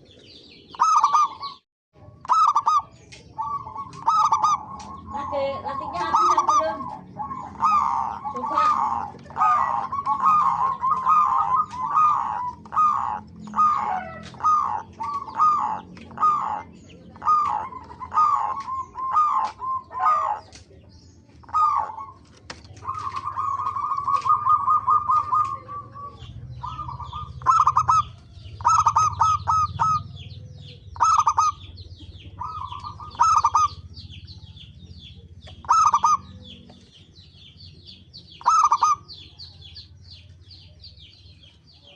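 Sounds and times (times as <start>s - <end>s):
doves cooing: 0.0s - 41.9s
small birds chirping: 0.0s - 41.9s.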